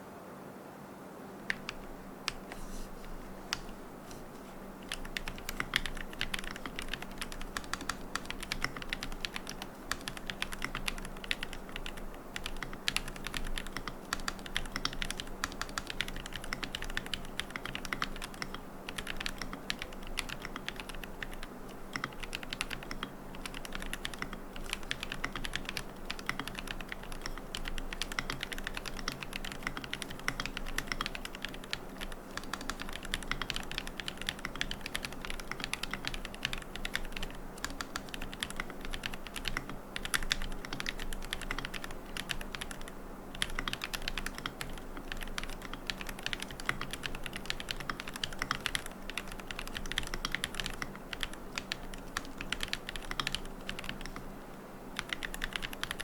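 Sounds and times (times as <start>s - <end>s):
fast typing on mechanical keyboard: 1.5s - 2.5s, 4.9s - 54.3s, 55.0s - 56.0s.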